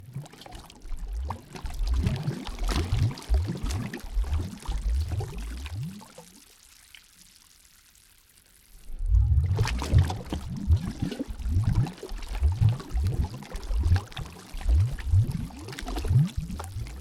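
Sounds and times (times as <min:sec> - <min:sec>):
water gurgling and sloshing: 0:00.0 - 0:06.6, 0:08.7 - 0:17.0
faint water trickle: 0:00.0 - 0:17.0.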